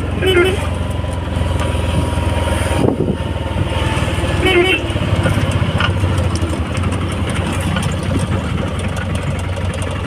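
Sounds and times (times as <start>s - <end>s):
small engine running steadily: 0.0s - 10.0s.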